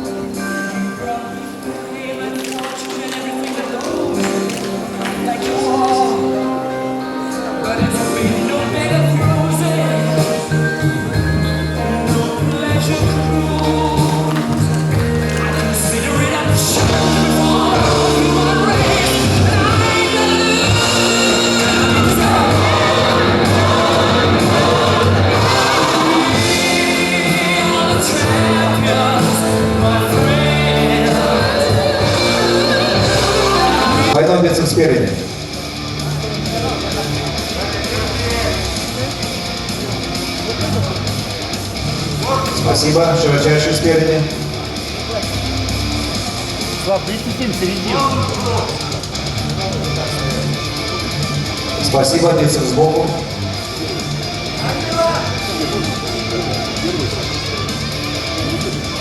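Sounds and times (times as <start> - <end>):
pop music over loudspeakers: 0.0 - 59.0.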